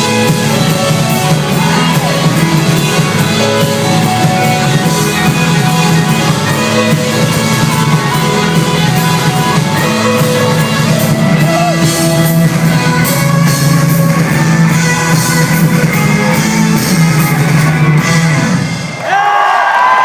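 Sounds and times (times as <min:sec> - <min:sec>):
person singing: 0:00.0 - 0:18.5
rock band playing live: 0:00.0 - 0:19.0.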